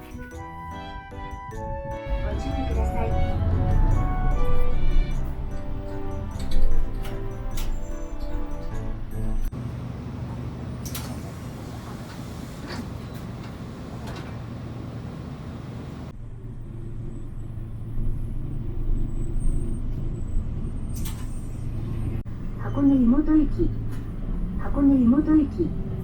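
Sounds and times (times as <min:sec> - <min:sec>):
bus engine hum: 0:00.0 - 0:26.0
road noise: 0:00.0 - 0:26.0.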